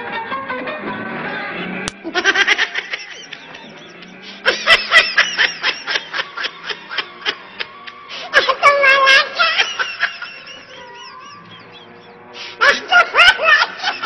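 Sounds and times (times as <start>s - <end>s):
laughter-like vocal chattering: 2.0s - 14.0s.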